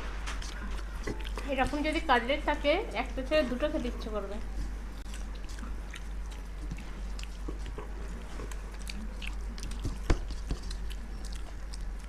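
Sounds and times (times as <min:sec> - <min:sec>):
people chewing food: 0:00.0 - 0:12.0
steady low hum: 0:00.0 - 0:12.0.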